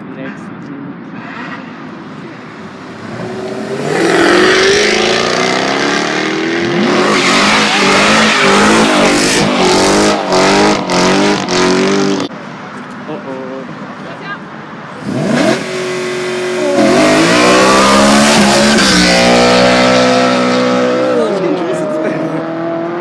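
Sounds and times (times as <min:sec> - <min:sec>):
car engine revving: 0:01.7 - 0:12.3, 0:14.9 - 0:23.0.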